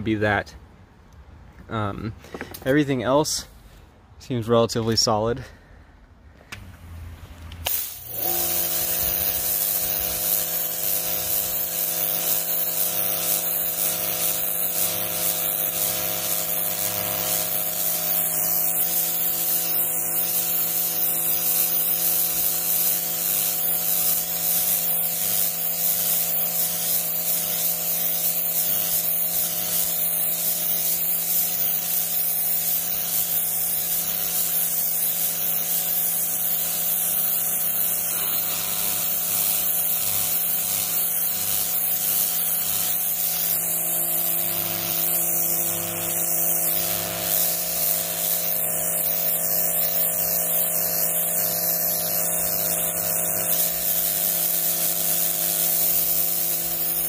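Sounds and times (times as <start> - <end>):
pressure washer motor humming: 7.6 - 57.0
water jet hissing on concrete: 7.6 - 57.0.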